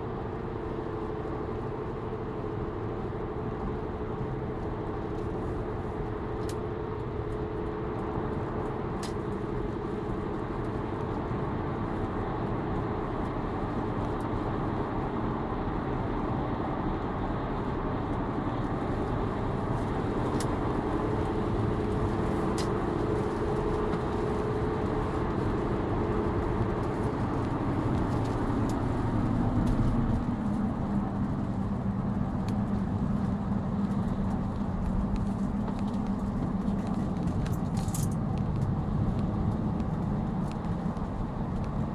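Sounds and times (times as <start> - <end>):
car driving with tyre drone: 0.0 - 41.9.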